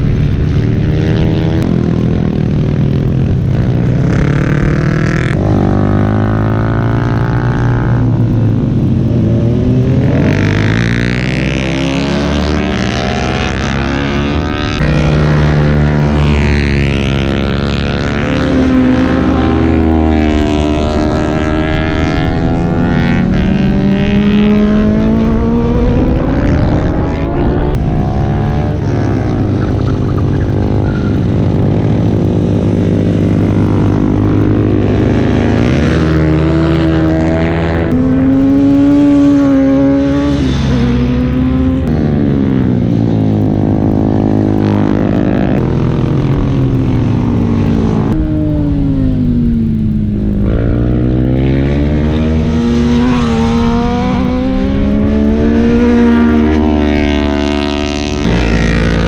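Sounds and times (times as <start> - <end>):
motorbike engines revving: 0.0 - 59.0.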